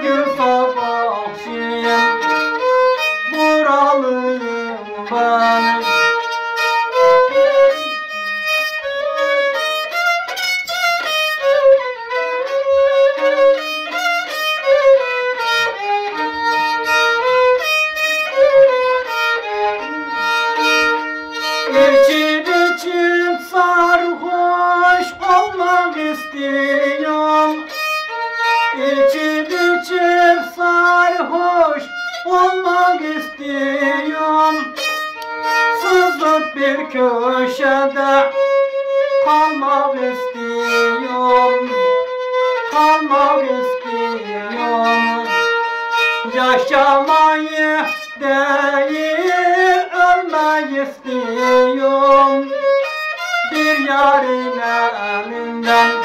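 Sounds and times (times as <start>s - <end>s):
solo violin melody: 0.0s - 56.0s.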